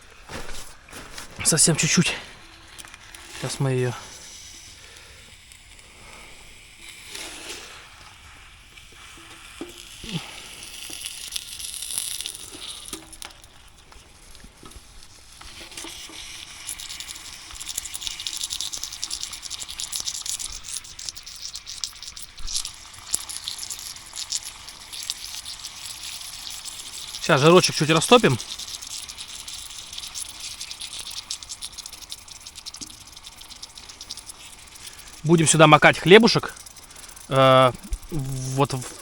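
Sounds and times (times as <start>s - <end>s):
meat crackling and sizzling: 0.0s - 39.0s.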